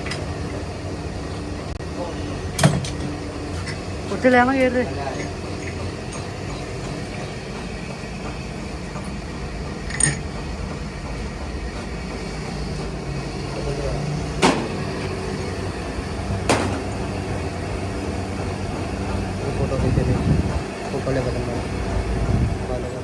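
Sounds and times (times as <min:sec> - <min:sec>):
milling machine humming: 0:00.0 - 0:23.0.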